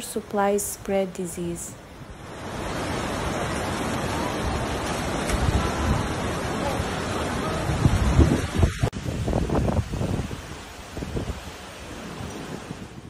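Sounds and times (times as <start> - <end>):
floodwater rushing in a river: 1.8 - 13.0
wind buffeting the microphone: 2.3 - 13.0.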